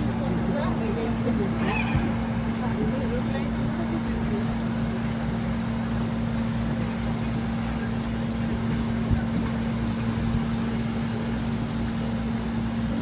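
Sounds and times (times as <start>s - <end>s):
pulsing low rumble: 0.0s - 13.0s
steady mechanical drone: 0.0s - 13.0s.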